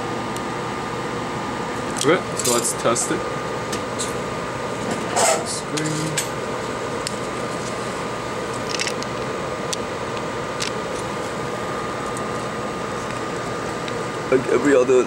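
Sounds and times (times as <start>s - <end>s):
fan hissing: 0.0s - 15.0s.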